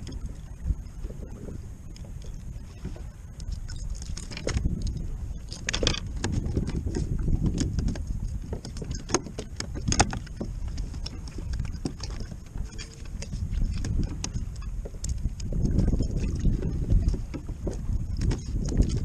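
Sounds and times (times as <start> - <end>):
wind buffeting microphone: 0.0 - 19.0
fishing gear rattling: 3.5 - 19.0.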